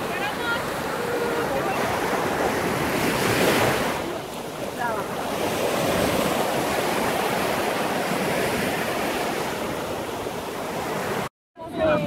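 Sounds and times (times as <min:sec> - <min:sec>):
sea surf washing in shallow water: 0:00.0 - 0:12.0.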